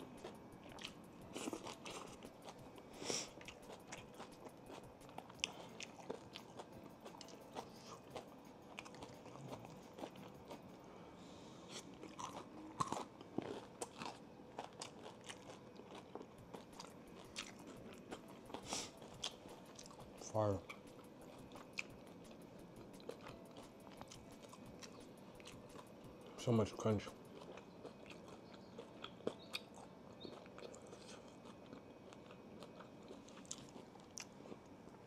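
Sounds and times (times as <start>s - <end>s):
chewing crispy fried chicken: 0.0s - 11.0s, 11.6s - 35.0s.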